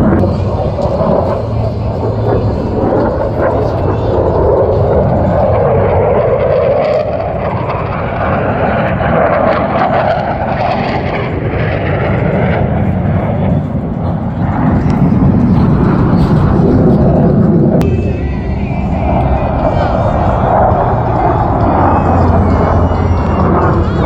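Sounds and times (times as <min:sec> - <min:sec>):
jets flying past: 0:00.0 - 0:24.0.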